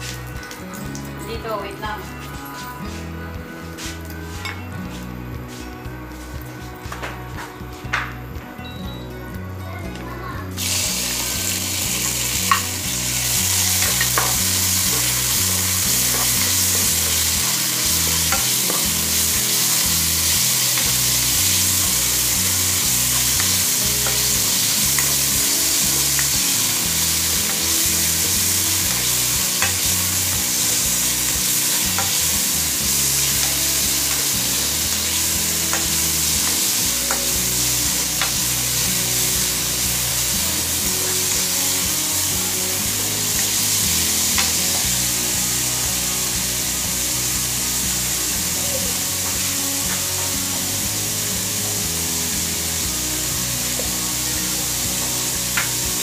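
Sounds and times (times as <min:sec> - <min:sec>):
chicken sizzling in a pan: 0:10.3 - 0:56.0.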